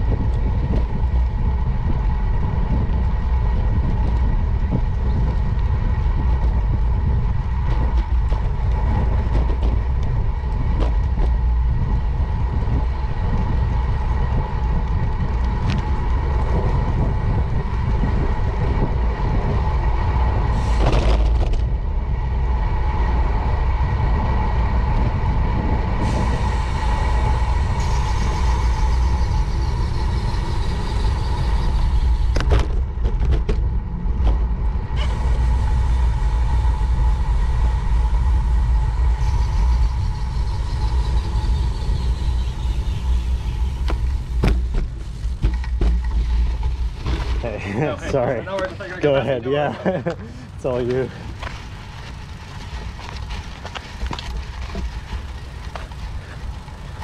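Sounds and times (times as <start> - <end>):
tyres rumbling on asphalt: 0.0 - 57.0
wind buffeting microphone: 0.0 - 57.0.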